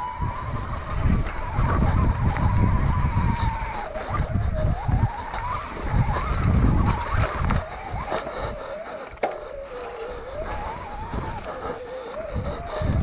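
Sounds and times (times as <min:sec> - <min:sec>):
electric motor whining: 0:00.0 - 0:13.0
tyres rumbling: 0:00.0 - 0:13.0
wind on microphone: 0:00.0 - 0:13.0.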